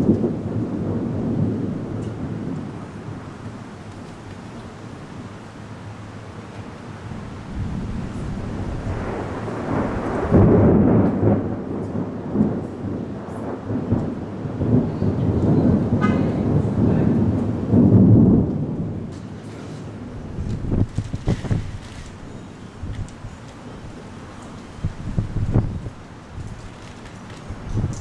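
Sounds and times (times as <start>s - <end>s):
rolling thunder: 0.0s - 5.3s, 7.0s - 28.0s.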